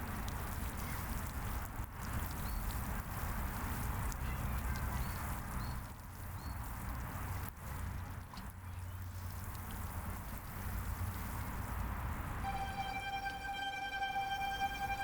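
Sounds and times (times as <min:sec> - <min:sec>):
water sprinkling onto soil: 0:00.0 - 0:12.3
wind rumble on microphone: 0:00.0 - 0:12.4.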